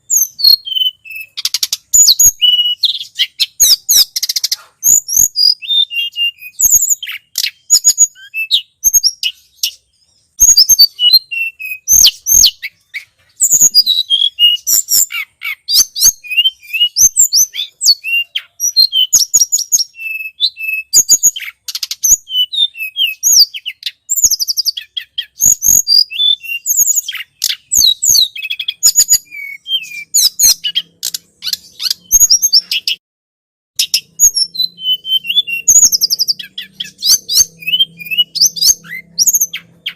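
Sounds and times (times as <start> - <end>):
bird chirping and twittering: 0.0 - 33.0, 33.8 - 39.9.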